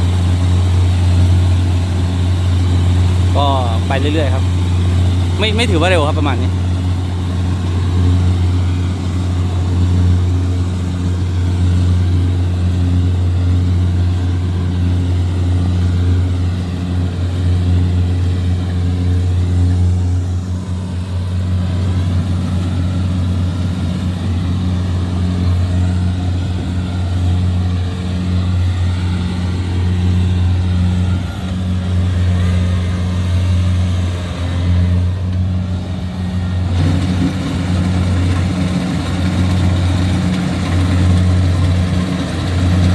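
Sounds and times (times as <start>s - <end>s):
combine harvester diesel engine: 0.0s - 42.9s.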